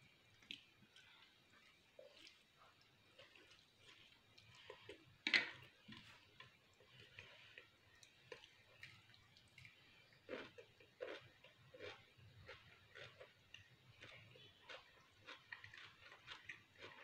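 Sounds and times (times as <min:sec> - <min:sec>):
person chewing pasta: 0:00.1 - 0:17.0.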